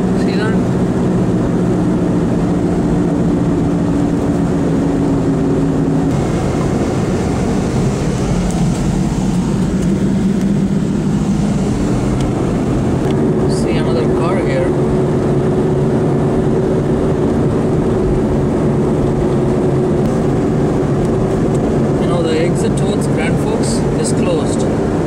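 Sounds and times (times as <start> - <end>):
car engine drone: 0.0 - 25.0
road noise: 0.0 - 25.0.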